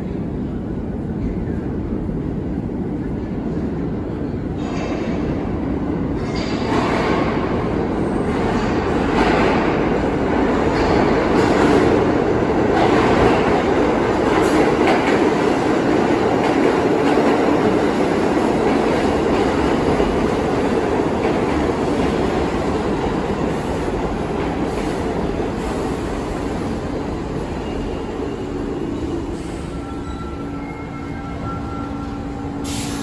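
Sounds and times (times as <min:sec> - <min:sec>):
subway train wheels rumbling: 0:00.0 - 0:33.0.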